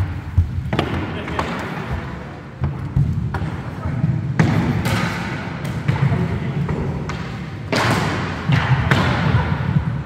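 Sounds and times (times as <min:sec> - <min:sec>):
hockey sticks clacking: 0:00.0 - 0:10.0.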